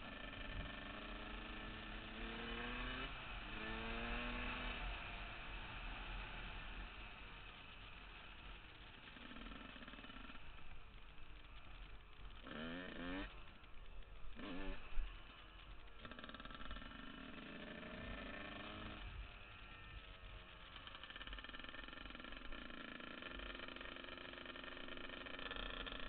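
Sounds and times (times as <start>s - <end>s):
two-stroke motorcycle engine revving: 0.0s - 26.0s.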